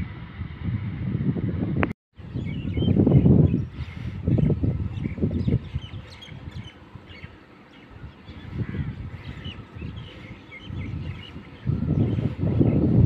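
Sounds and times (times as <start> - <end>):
wind buffeting microphone: 0.0 - 13.0
birds chirping: 2.2 - 13.0.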